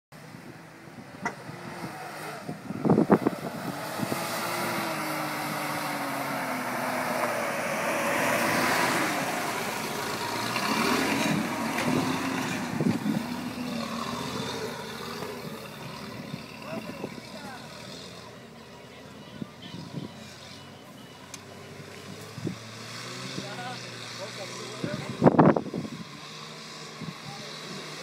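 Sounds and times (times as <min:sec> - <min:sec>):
off-road vehicle engine revving: 0:00.6 - 0:28.0.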